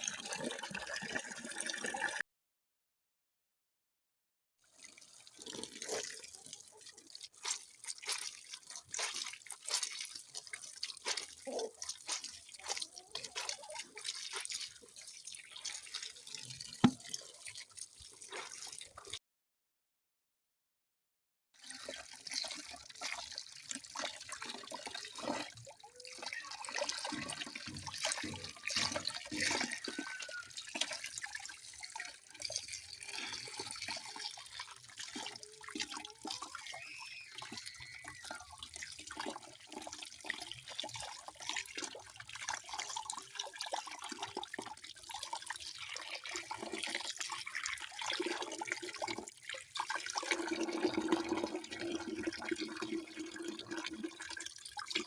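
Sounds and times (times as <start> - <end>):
water running and splashing: 5.2 - 19.1, 21.8 - 52.6.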